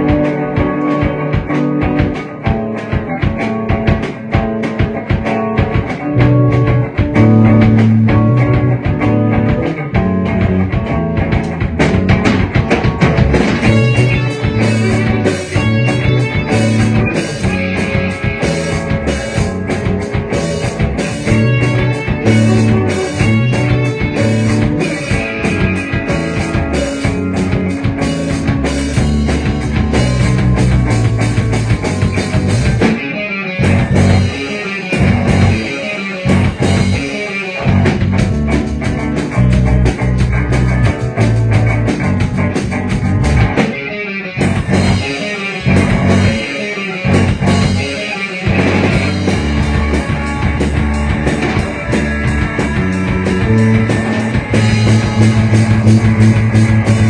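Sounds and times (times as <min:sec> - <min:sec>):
rock band playing instrumental: 0:00.0 - 0:57.0.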